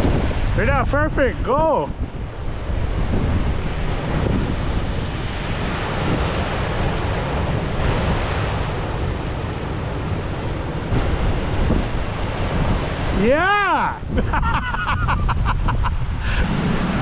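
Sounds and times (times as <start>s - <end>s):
ocean surf breaking over rocks: 0.0s - 17.0s
wind rumbling on microphone: 0.0s - 17.0s.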